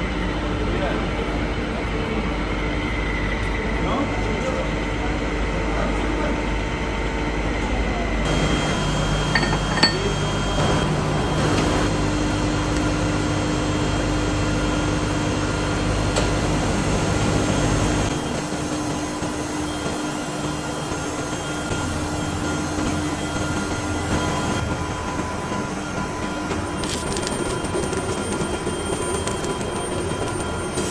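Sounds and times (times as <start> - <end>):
workshop machinery humming: 0.0 - 30.9.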